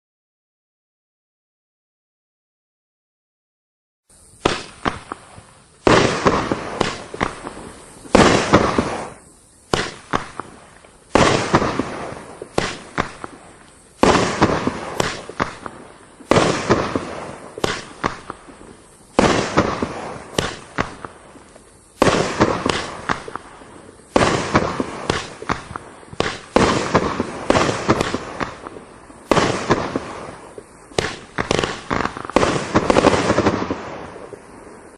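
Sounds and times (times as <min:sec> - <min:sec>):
crackling firework pops: 0:04.1 - 0:34.9
loud firework shots: 0:04.2 - 0:34.9.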